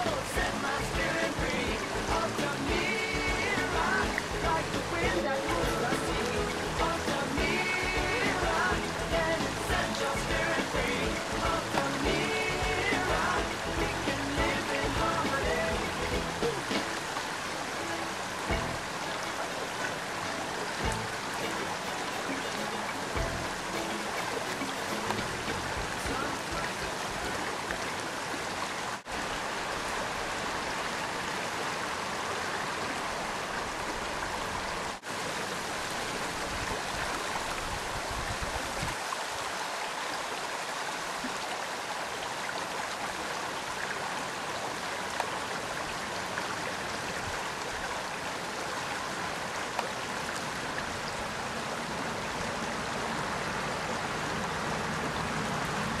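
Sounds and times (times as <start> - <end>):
stream flowing over gravel: 0.0 - 56.0.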